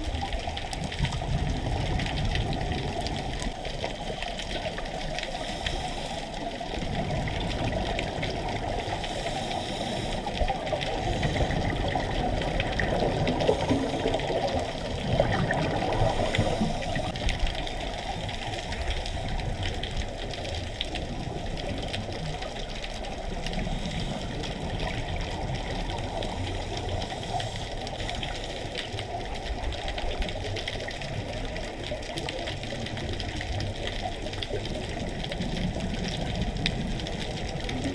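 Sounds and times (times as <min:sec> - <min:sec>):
crackle of tiny clicks: 0:00.0 - 0:37.9
low underwater rumble: 0:00.0 - 0:37.9
scuba exhaust bubbles gurgling: 0:00.0 - 0:37.9.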